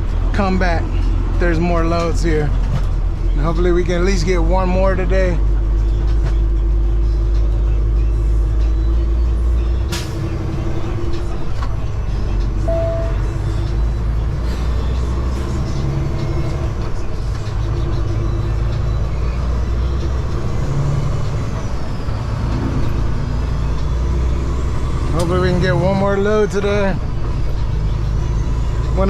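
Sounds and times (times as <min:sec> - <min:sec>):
diesel truck engine rumbling: 0:00.0 - 0:29.0.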